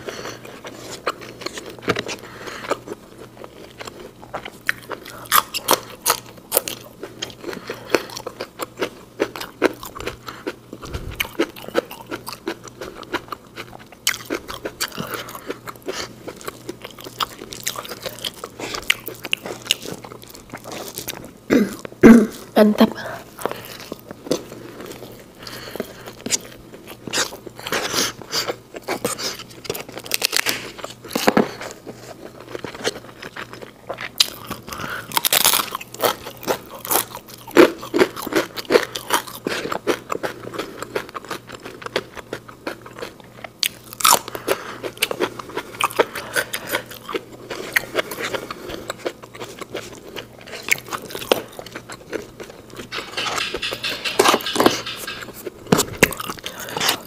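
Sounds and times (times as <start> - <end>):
chewing crisp fried food: 0.0 - 57.0.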